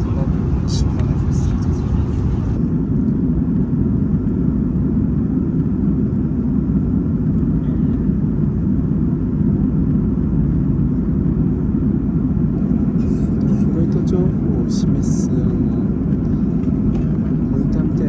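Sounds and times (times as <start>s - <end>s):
airplane cabin engine noise: 0.0s - 18.0s.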